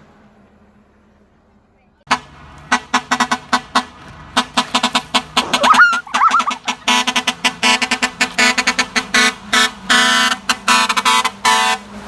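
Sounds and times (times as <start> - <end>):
truck horn short pitched blasts: 2.1 - 12.0.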